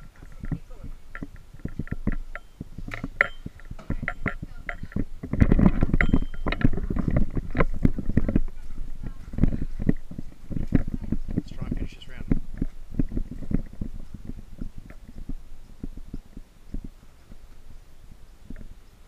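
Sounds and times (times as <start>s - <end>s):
camera bumps and rustling: 0.0s - 17.6s.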